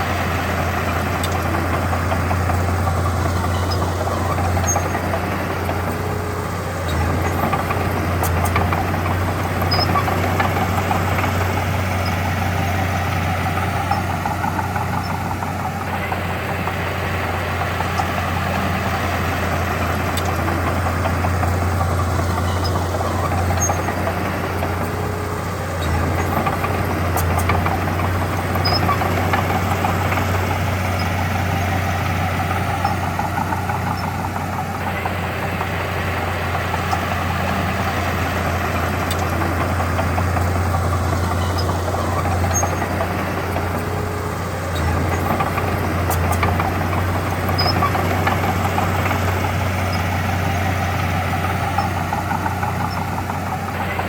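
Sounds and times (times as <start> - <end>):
heavy machinery diesel engine running: 0.0 - 54.0.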